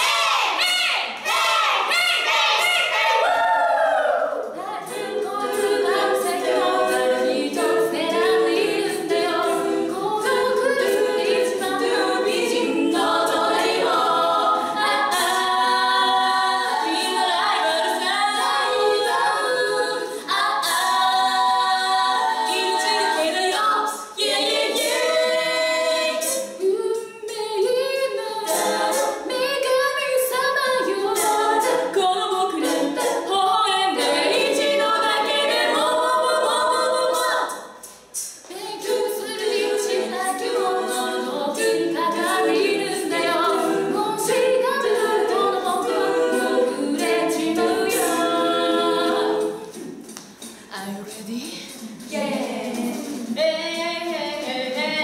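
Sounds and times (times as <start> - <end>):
a cappella group singing: 0.0 - 55.0.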